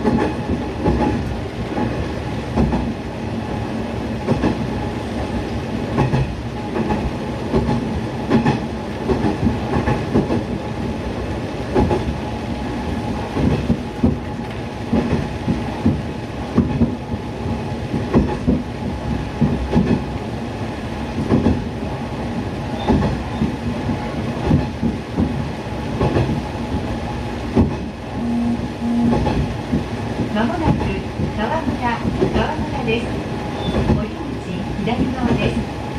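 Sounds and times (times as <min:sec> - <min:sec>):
diesel railcar engine drone: 0:00.0 - 0:35.9.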